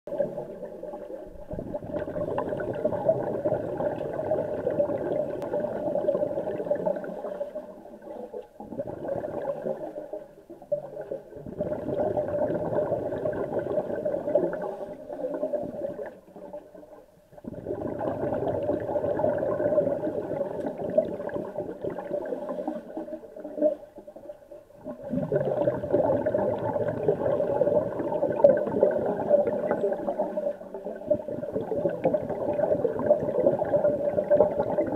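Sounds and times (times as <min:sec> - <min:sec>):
underwater regulator bubbles gurgling: 0:00.1 - 0:34.9.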